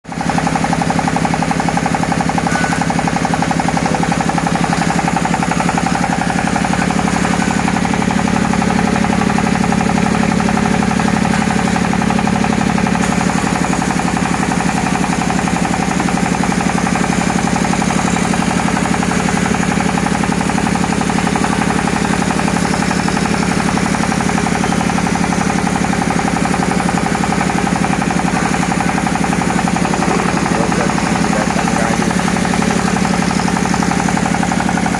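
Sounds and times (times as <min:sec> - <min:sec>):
machine mechanical chatter: 0:00.2 - 0:34.9.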